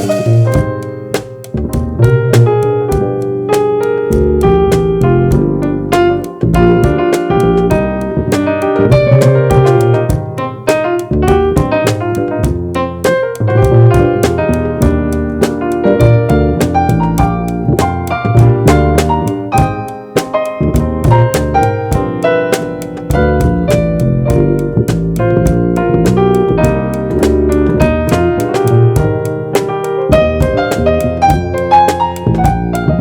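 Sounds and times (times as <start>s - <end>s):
bass notes: 0.0s - 33.0s
drums keeping time: 0.0s - 33.0s
electric piano: 0.0s - 33.0s.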